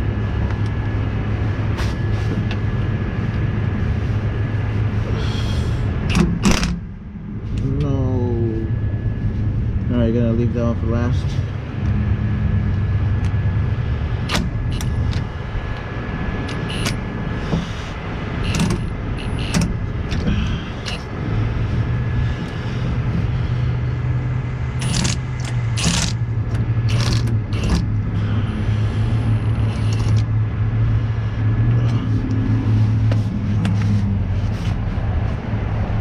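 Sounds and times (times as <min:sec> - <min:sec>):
vehicle engine idling: 0:00.0 - 0:36.0.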